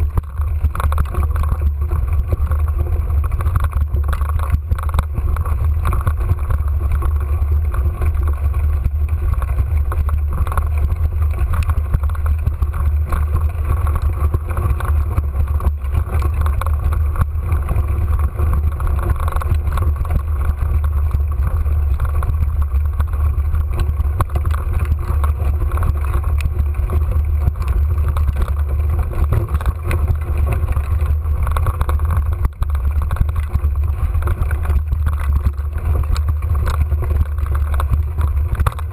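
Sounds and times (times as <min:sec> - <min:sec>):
bike ride vibration rumble: 0:00.0 - 0:38.9.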